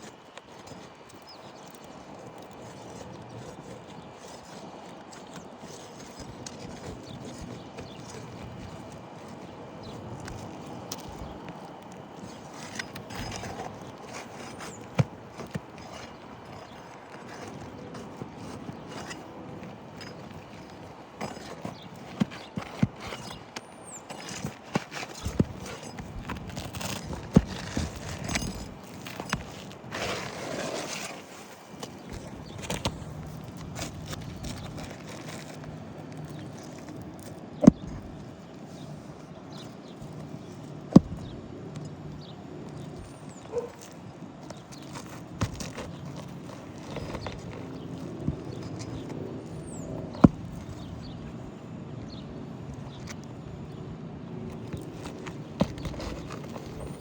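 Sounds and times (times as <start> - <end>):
scraping on roof shingle: 0.0 - 51.7, 52.7 - 57.0.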